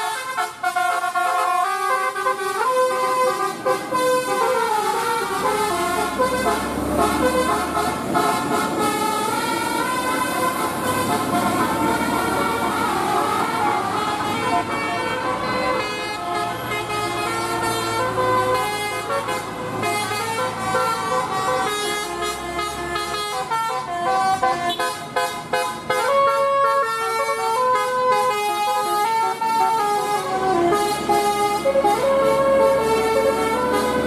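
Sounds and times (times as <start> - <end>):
bus engine: 0.0 - 34.0
melodic air horn tune: 0.0 - 34.0
passing traffic: 0.0 - 34.0.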